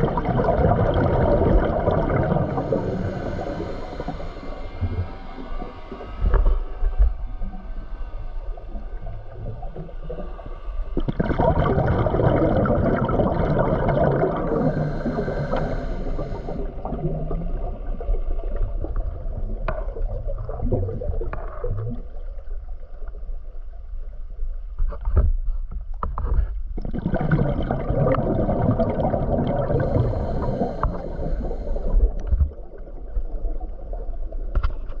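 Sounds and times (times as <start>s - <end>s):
muffled underwater water noise: 0.0s - 35.0s.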